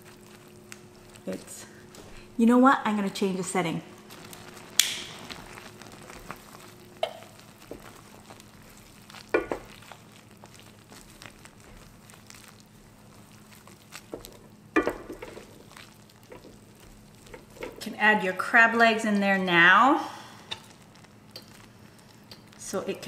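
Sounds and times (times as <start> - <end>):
broth simmering hiss: 0.0 - 23.0.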